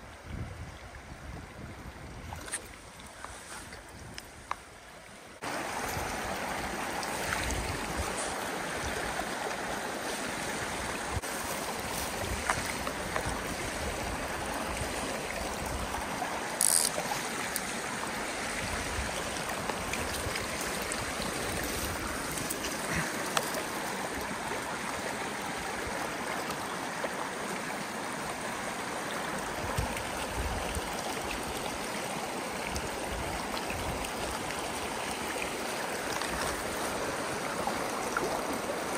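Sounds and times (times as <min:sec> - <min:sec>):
creek running over gravel: 0:00.0 - 0:38.9.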